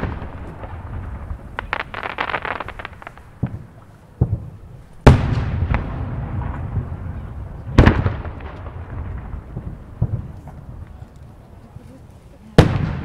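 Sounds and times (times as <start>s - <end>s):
firework shell heavy boom: 0.0s - 10.8s
firework sharp crack: 0.0s - 11.4s, 12.4s - 13.0s.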